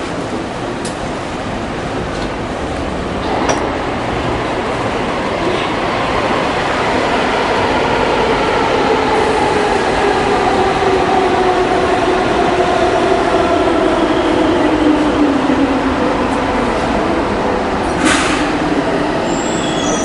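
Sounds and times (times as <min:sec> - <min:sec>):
electric train rumble and whine: 0:00.0 - 0:20.0.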